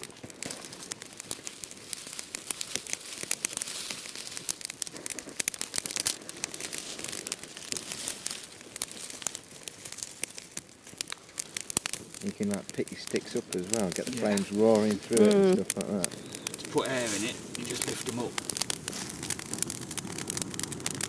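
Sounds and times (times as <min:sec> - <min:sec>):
dry grass crackling as it burns: 0:00.0 - 0:21.0
dry grass rustling: 0:00.0 - 0:21.0.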